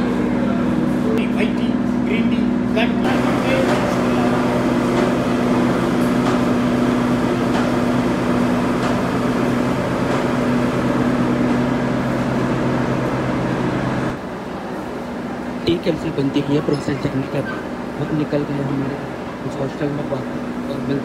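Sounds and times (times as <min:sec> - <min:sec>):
processing machinery motor hum: 0:00.0 - 0:21.0.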